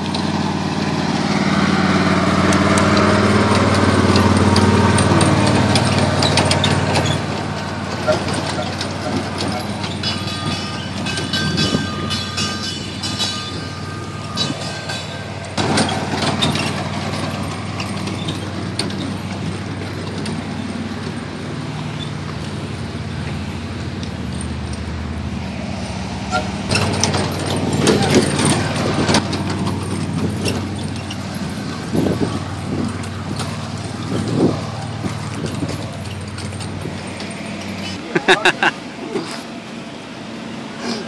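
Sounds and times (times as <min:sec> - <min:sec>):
cars knocking and rattling: 0:00.0 - 0:41.0.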